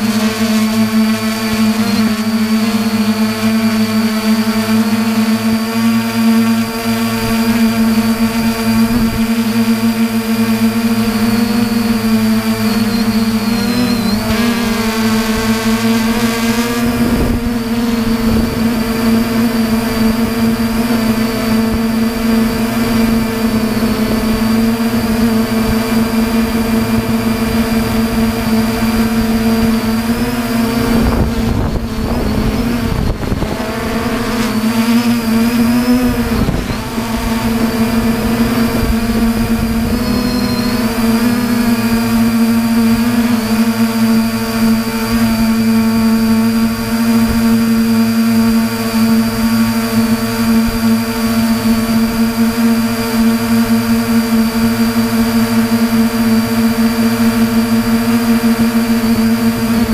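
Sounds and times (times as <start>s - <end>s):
drone motors humming: 0.0s - 59.9s.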